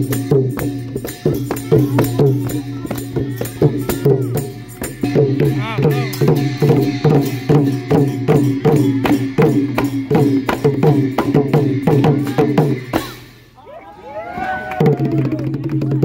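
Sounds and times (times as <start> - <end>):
cymbals clashing: 0.0 - 13.6
long drums beaten by hand: 0.0 - 13.6.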